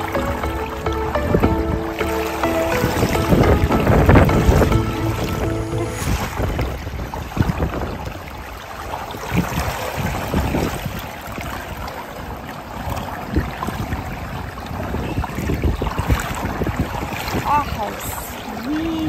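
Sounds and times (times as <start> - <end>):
hot tub water sloshing: 0.0 - 19.0
wind on microphone: 0.0 - 19.0.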